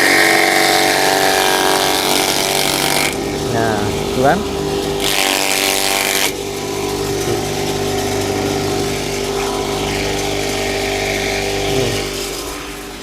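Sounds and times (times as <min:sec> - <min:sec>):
electric chopper motor hum: 0:00.0 - 0:13.0.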